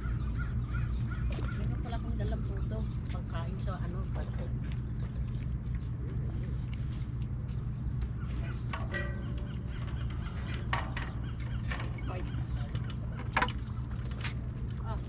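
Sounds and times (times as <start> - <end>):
gulls calling: 0.0 - 5.6, 7.7 - 15.0
steady low hum: 0.0 - 15.0.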